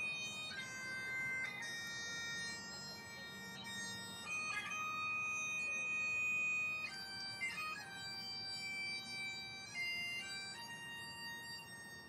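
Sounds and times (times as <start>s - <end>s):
bagpipes playing slow tune: 0.0s - 12.0s.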